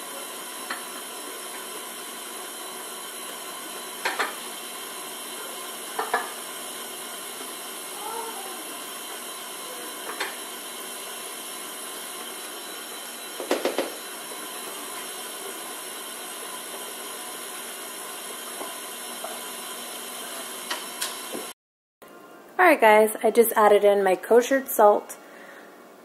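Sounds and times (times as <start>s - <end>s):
stand mixer motor humming: 0.0s - 21.5s.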